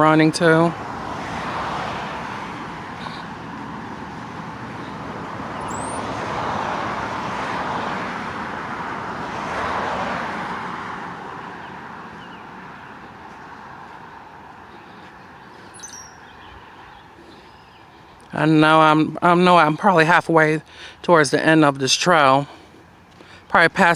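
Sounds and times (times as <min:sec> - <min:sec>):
passing cars tyre noise: 0:00.0 - 0:23.9.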